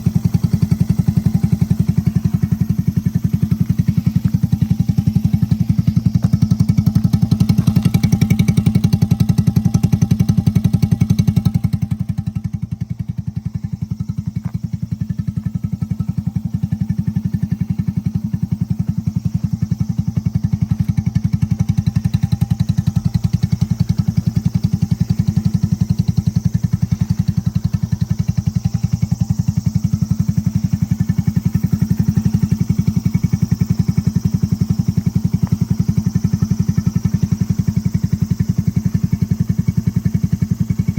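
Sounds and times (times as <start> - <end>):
small engine pulsing exhaust: 0.0 - 40.9.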